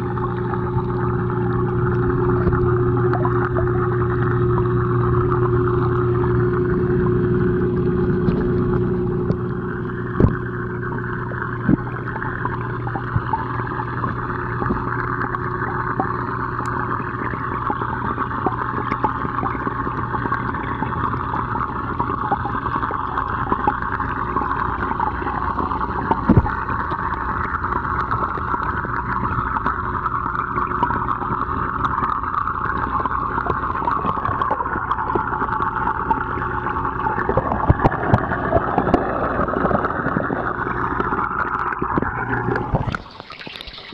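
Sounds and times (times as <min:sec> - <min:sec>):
aquarium water bubbling: 0:00.0 - 0:43.9
low pump hum: 0:00.0 - 0:43.9.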